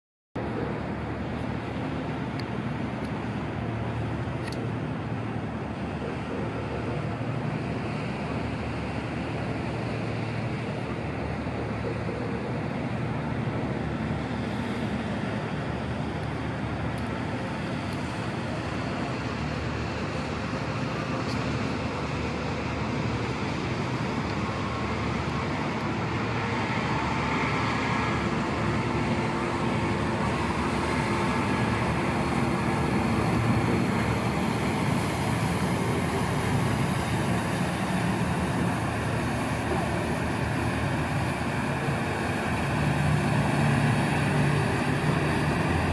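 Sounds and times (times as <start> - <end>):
ferry diesel engines rumbling: 0.4 - 45.9.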